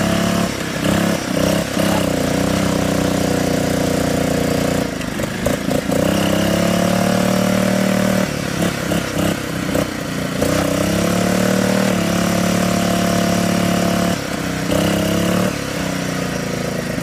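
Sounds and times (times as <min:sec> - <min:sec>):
lawn mower engine revving: 0:00.0 - 0:17.0.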